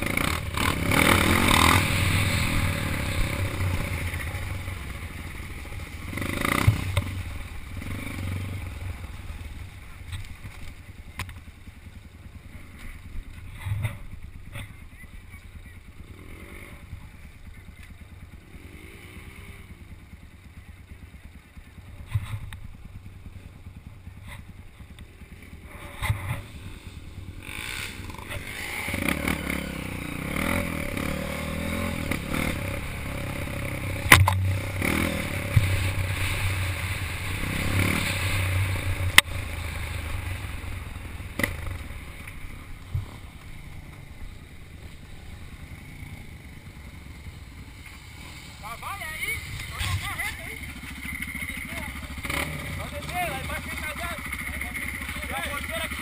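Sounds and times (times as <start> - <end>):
off-road motorcycle engine: 0.0 - 56.0.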